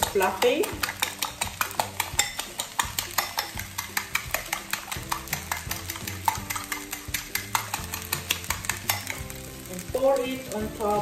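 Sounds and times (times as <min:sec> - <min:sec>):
fork whisking eggs in bowl: 0:00.0 - 0:11.0.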